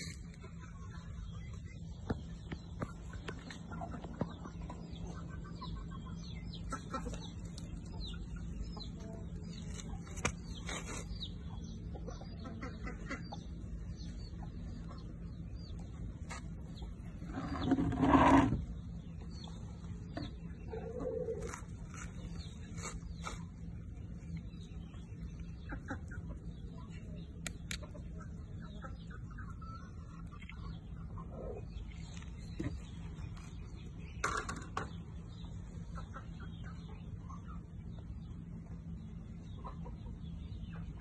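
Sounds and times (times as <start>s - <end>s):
birds chirping: 0.0s - 41.0s
steady low hum: 0.0s - 41.0s.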